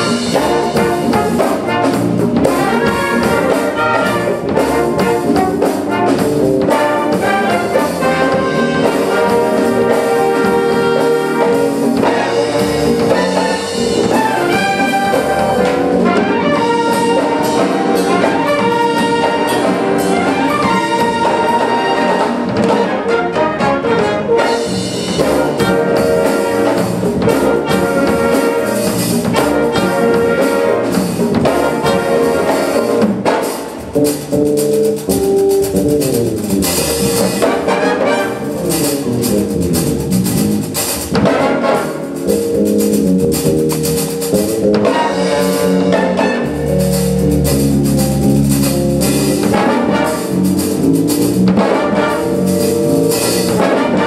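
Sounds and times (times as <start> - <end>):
trumpets and trombones: 0.0 - 33.8, 36.8 - 39.5, 41.0 - 43.2, 44.2 - 54.0
wind band playing: 0.0 - 54.0.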